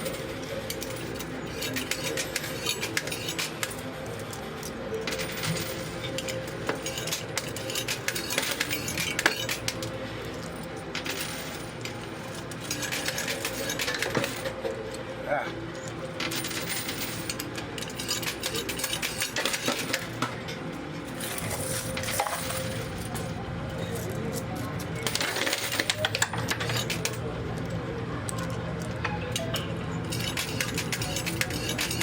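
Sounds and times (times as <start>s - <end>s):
arcade hum: 0.0s - 32.0s
coins clinking: 0.0s - 32.0s.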